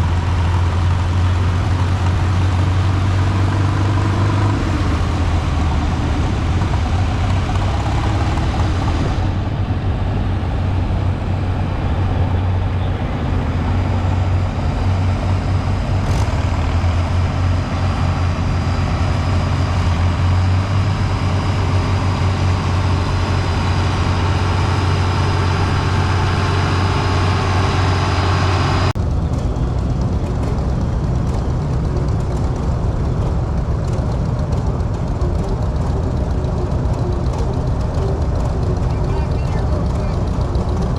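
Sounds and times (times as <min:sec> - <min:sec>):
tractor engines running: 0:00.0 - 0:40.9.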